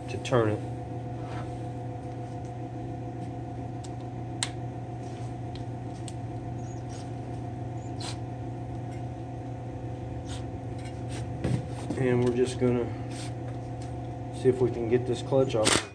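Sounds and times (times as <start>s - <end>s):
machine humming: 0.0s - 15.9s.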